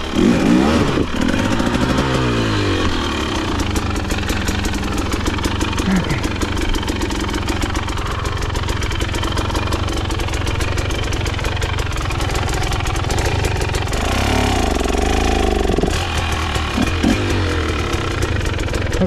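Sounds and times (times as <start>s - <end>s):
dirt bike engine idling and revving: 0.0s - 19.0s.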